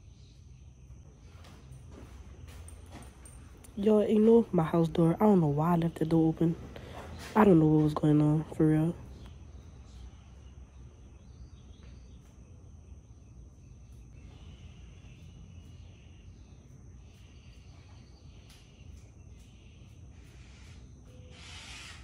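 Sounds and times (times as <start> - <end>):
low room rumble: 0.0 - 22.0.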